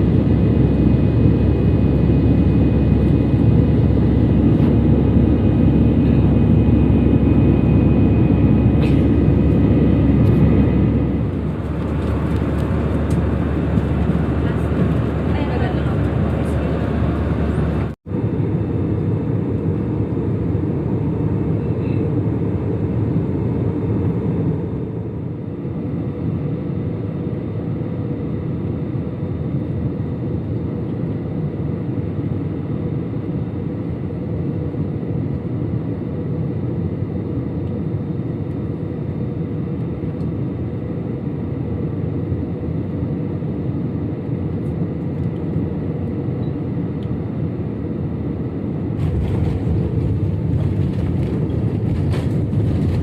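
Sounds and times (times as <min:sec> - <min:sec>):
airliner engine rumble in cabin: 0:00.0 - 0:53.0.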